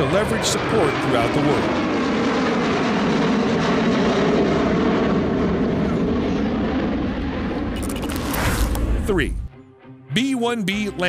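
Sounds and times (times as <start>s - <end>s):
jet engines running: 0.0s - 9.5s.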